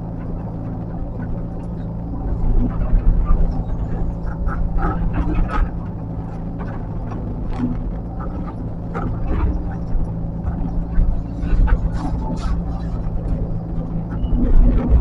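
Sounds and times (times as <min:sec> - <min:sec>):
heavy machinery engine running: 0:00.0 - 0:15.0.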